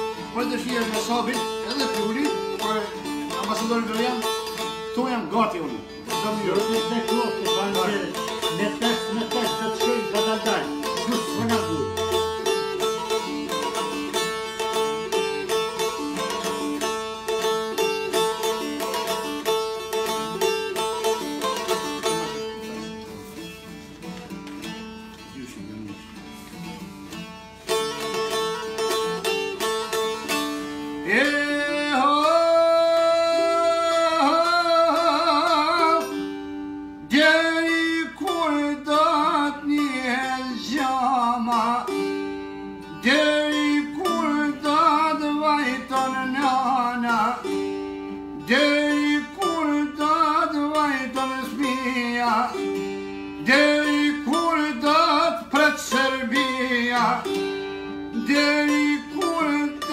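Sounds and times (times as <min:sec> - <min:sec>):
man singing folk song: 0:00.0 - 0:23.9, 0:24.5 - 0:59.9
plucked lutes: 0:00.0 - 0:59.9.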